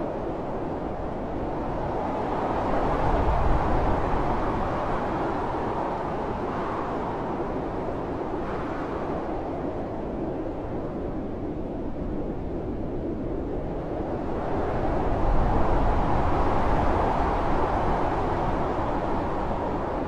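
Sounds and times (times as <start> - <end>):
blizzard wind rushing: 0.0 - 20.0.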